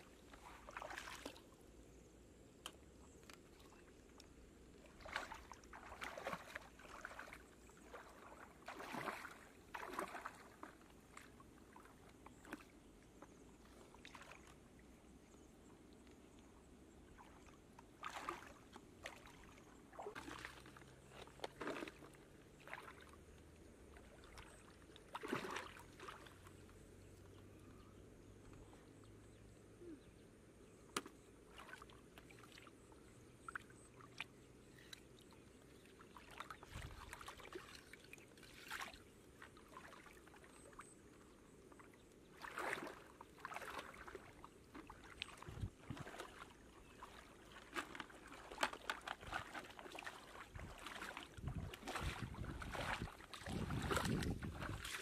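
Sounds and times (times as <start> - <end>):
water splashing and sloshing: 0.0 - 27.6, 30.6 - 55.0.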